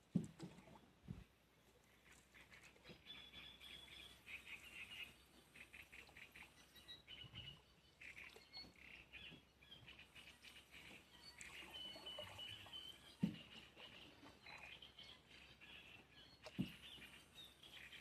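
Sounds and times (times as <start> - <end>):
faint bird chirping: 1.6 - 18.0.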